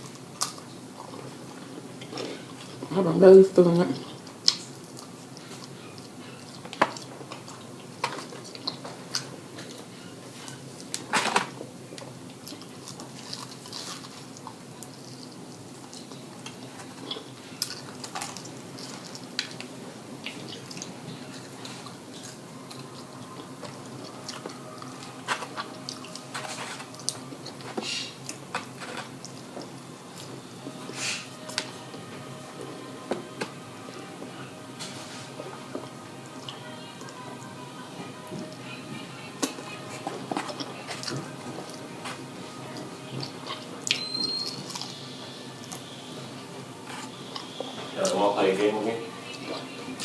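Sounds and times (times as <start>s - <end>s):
person chewing food: 0.0s - 2.9s, 3.9s - 48.2s.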